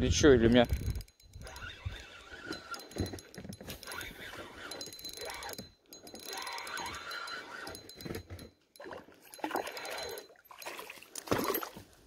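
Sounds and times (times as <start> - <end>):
spinning reel clicking and whining: 0.4 - 10.3.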